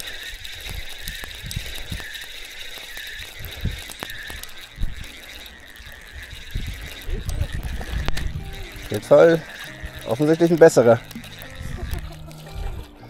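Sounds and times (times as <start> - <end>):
fishing reel whirring and ticking: 0.0 - 13.0.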